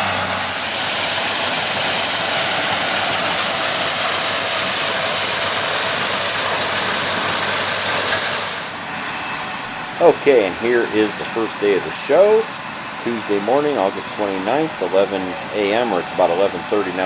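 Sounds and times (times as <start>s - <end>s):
harvest machinery rushing: 0.0s - 17.0s.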